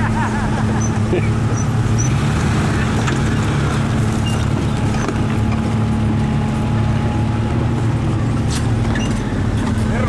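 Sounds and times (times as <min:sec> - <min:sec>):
vehicle engine running steadily: 0:00.0 - 0:10.0.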